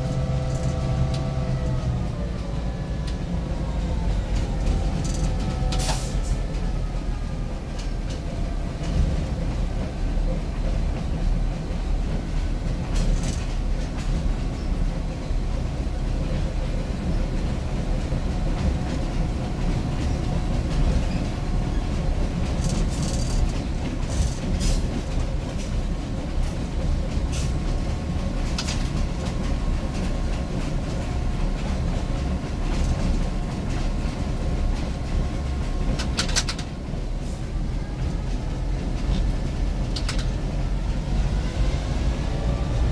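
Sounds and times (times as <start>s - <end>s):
locomotive engine rumble: 0.0s - 42.9s
wheels clattering on rails: 0.0s - 42.9s.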